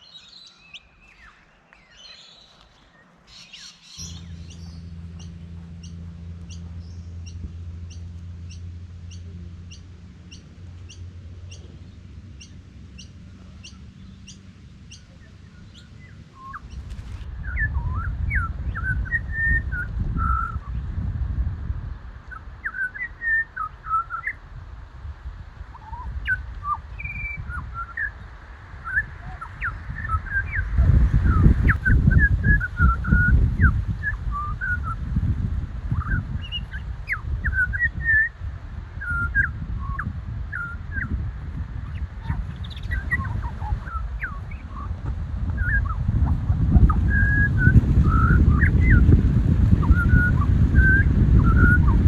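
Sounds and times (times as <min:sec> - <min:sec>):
small birds chirping: 0:00.0 - 0:21.1, 0:21.9 - 0:24.7, 0:25.6 - 0:52.0
low rumble: 0:00.8 - 0:52.0.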